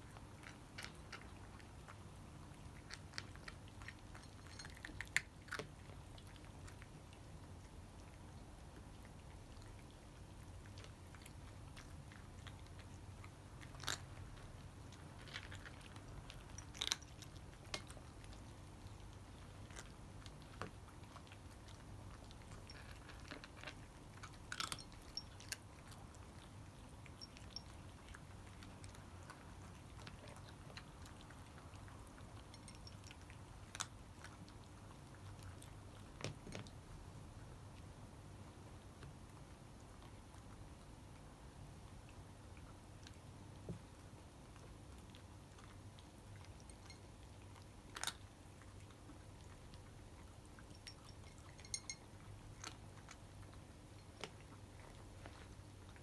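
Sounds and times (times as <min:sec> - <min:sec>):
cats chewing dry food: 0:00.0 - 0:56.0.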